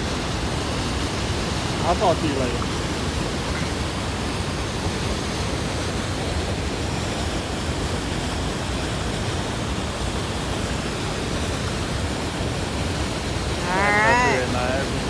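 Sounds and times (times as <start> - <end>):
rush of falling water: 0.0 - 15.0.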